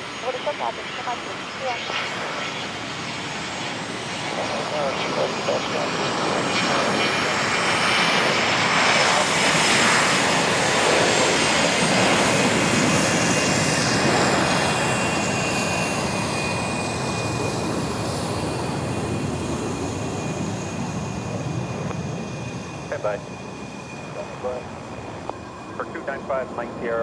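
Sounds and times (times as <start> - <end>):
high turbine whines: 0.0 - 27.0
jet engine roar: 0.0 - 27.0.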